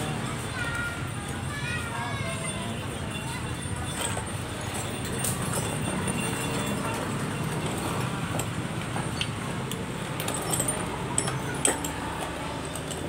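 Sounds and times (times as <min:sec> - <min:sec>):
metal engine parts clinking: 0:02.4 - 0:13.0.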